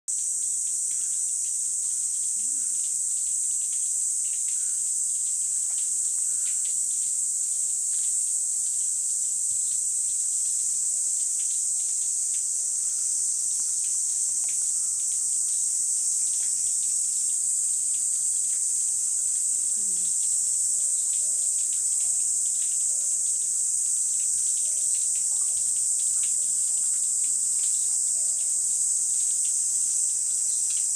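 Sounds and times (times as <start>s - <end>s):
cicadas droning: 0.1s - 30.9s.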